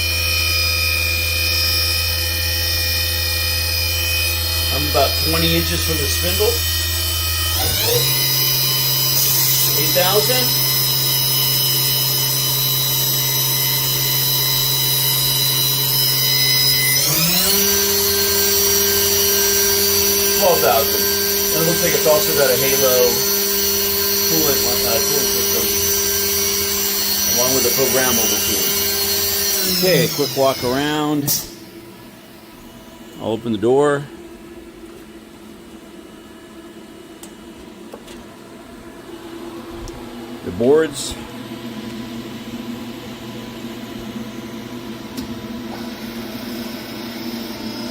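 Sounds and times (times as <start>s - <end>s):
machine spindle whine: 0.0s - 33.6s, 39.0s - 47.9s.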